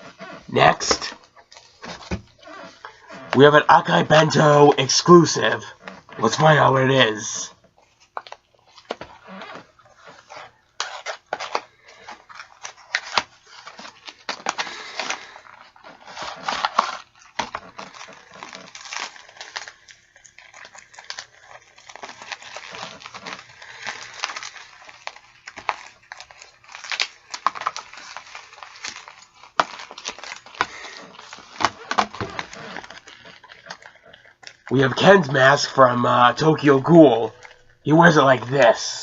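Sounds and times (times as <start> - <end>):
packaging crinkling and tearing: 0.0 - 39.0.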